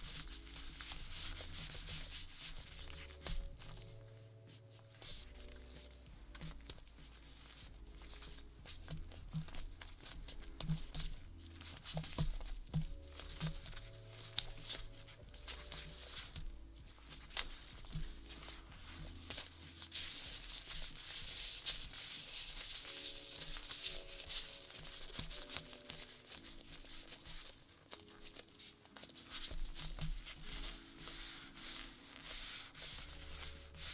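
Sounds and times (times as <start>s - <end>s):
plastic gloves crinkling: 0.0s - 33.9s
soft background music: 0.0s - 33.9s.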